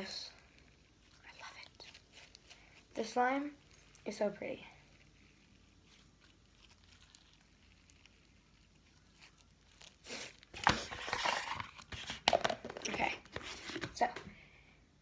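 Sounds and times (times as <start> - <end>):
crinkling handling noise: 0.0 - 14.2.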